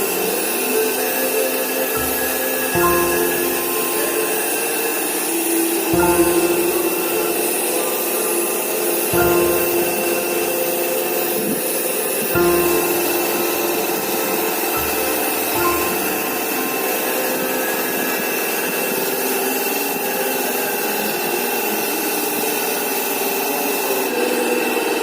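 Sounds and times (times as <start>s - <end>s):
thin high whine: 0.0s - 23.6s
power tool whirring: 0.0s - 25.0s.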